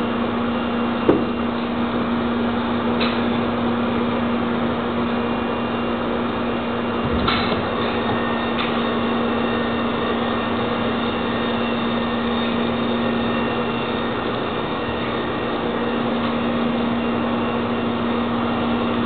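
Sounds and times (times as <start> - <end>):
winch motor humming: 0.0 - 19.0.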